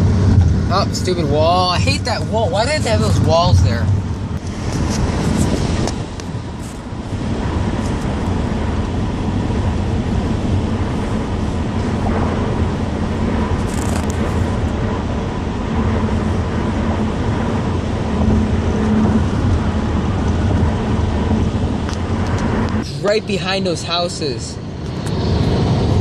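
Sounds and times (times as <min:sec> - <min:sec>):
road and engine noise in car: 0:00.0 - 0:26.0.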